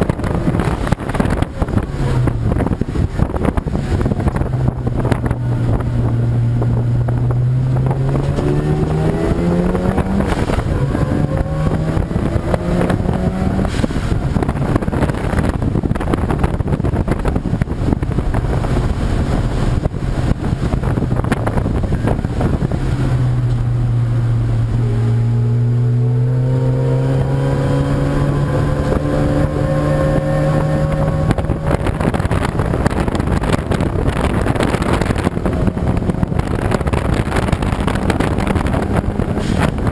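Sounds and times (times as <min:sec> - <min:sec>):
race car engines accelerating: 0:00.0 - 0:39.9
wind noise on microphone: 0:00.0 - 0:39.9.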